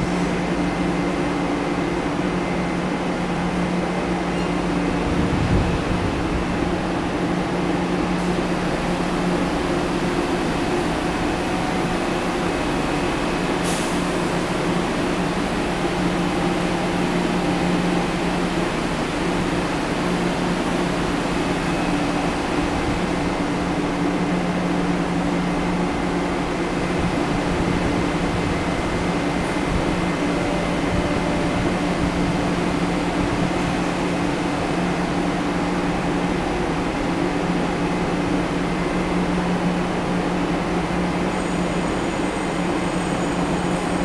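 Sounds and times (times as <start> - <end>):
subway train humming: 0.0 - 44.0.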